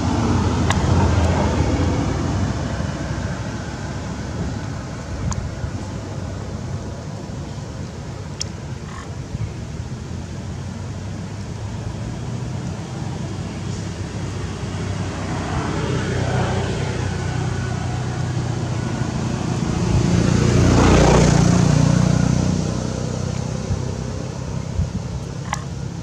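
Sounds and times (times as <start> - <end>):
vehicle passing by: 0.0 - 7.8, 9.8 - 26.0
outdoor traffic noise: 0.0 - 26.0.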